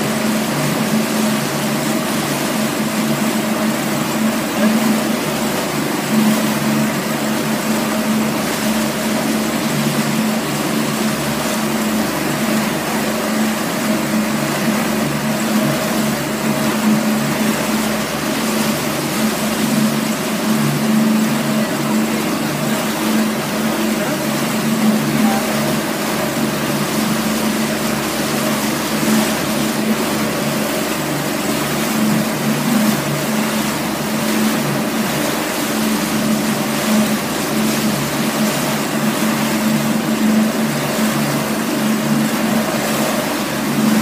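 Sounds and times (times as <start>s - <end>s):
churning water rushing: 0.0s - 44.0s
outboard motor running: 0.0s - 44.0s.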